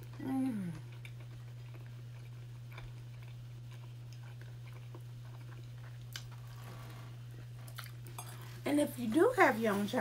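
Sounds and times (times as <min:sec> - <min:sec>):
person chewing: 0:00.0 - 0:08.6
steady low hum: 0:00.0 - 0:10.0.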